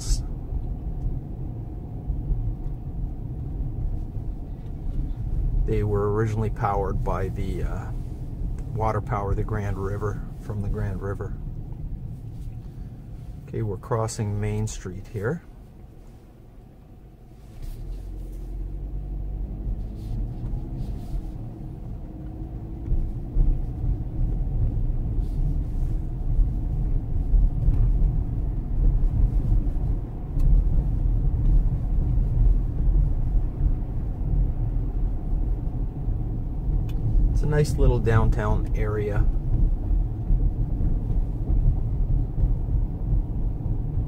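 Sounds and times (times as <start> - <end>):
car engine accelerating: 0.0 - 44.0
road noise inside car: 0.0 - 44.0.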